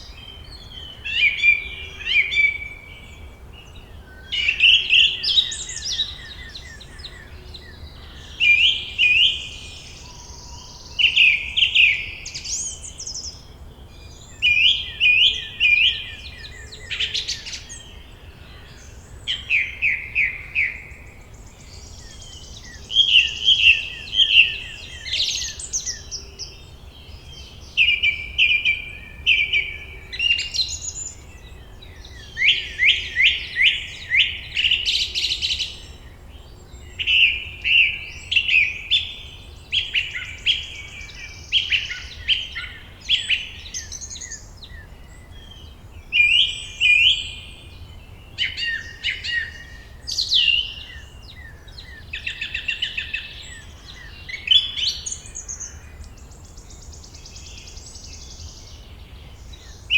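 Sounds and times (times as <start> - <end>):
faint low background noise: 0.0 - 59.9
songbirds chirping and trilling: 0.0 - 59.9.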